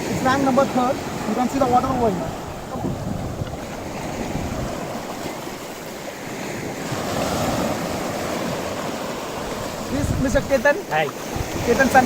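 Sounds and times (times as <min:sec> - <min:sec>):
sea waves washing: 0:00.0 - 0:12.0
wind rumbling on microphone: 0:00.0 - 0:12.0.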